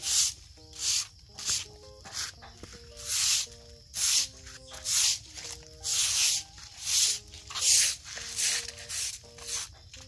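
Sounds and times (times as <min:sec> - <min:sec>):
loud swishing hiss: 0:00.0 - 0:02.3, 0:03.0 - 0:09.2.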